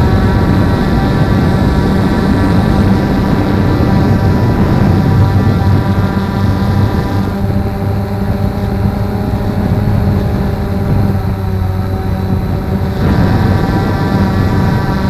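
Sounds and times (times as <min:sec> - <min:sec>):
quadcopter motors humming: 0:00.0 - 0:15.0.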